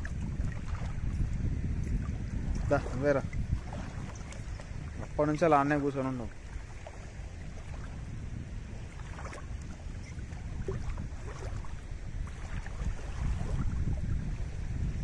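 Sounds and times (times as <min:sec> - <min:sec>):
small waves lapping against rock: 0:00.0 - 0:14.7
wind buffeting microphone: 0:00.0 - 0:15.0.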